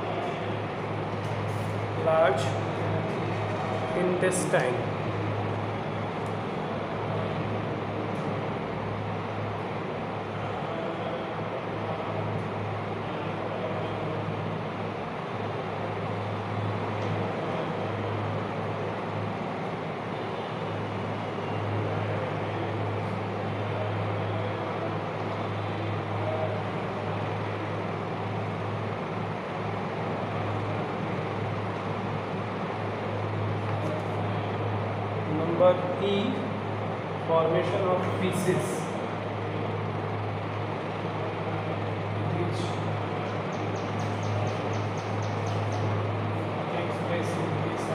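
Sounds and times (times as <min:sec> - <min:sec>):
constant low hum: 0:00.0 - 0:47.9.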